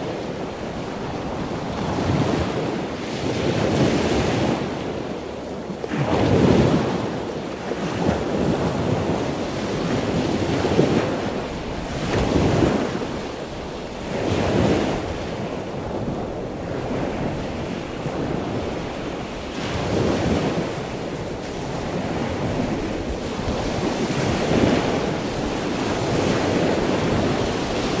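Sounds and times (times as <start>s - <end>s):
ocean waves washing in: 0.0s - 28.0s.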